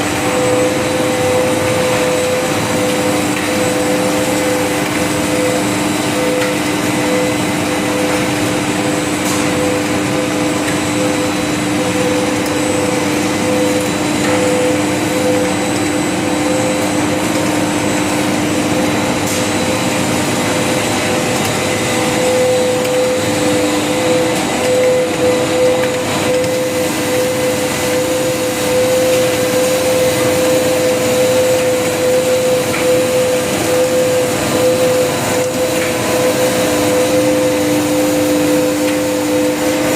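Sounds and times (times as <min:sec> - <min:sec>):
high machine whine: 0:00.0 - 0:39.9
machinery drone: 0:00.0 - 0:39.9.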